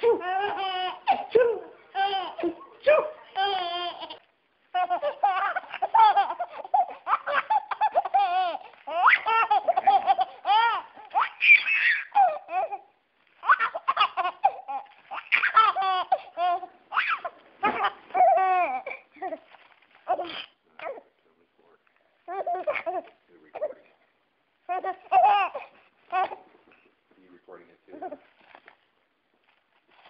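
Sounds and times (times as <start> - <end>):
baby laughing: 0.0 - 21.0, 22.3 - 23.8, 24.7 - 26.5.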